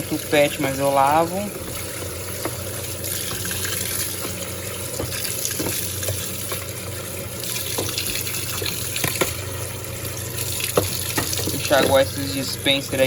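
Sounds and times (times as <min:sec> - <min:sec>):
water pouring into washing machine: 0:00.0 - 0:13.0.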